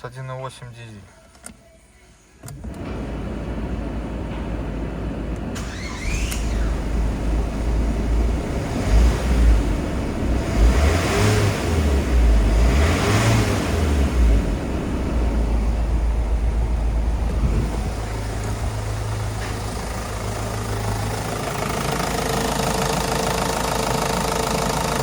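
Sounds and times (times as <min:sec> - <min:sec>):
diesel engine running and revving: 0:02.7 - 0:25.0.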